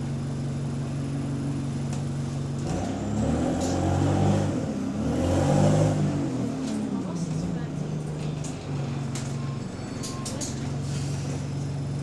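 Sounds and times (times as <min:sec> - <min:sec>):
bus diesel engine accelerating: 0:00.0 - 0:12.0.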